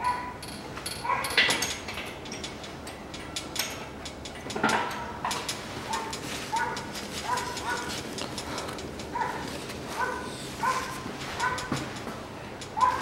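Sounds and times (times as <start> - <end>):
hand tools clicking on metal bolts: 0.4 - 13.0.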